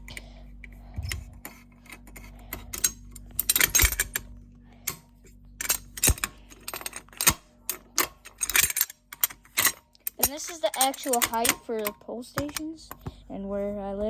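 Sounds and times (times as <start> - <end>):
faint steady hum: 0.0 - 14.0
metallic rattling and jangling: 1.0 - 5.0, 5.6 - 13.6.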